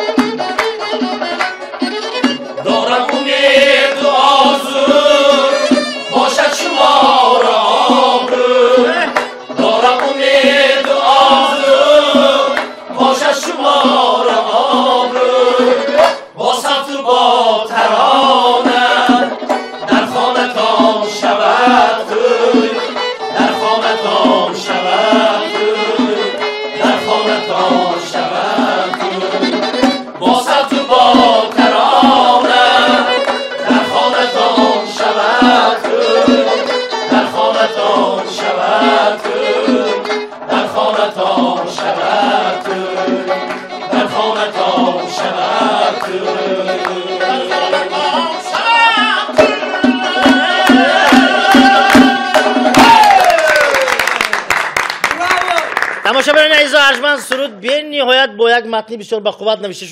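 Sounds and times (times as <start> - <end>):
men singing in chorus: 2.5 - 53.3.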